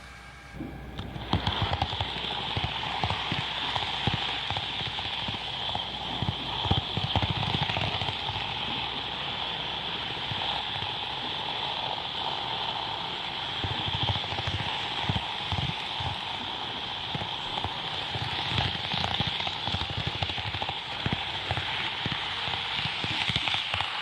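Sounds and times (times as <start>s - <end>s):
model train motor whine: 0.0s - 24.0s.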